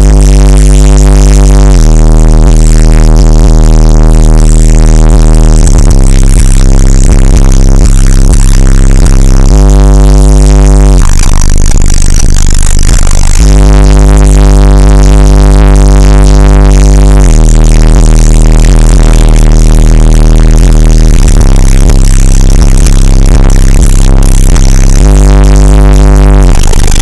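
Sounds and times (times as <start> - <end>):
bass-heavy electronic music: 0.0 - 27.0.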